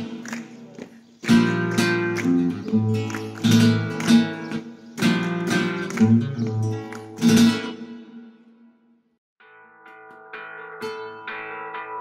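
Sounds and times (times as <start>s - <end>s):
flamenco guitar strummed chords: 1.2s - 8.7s, 9.4s - 12.0s.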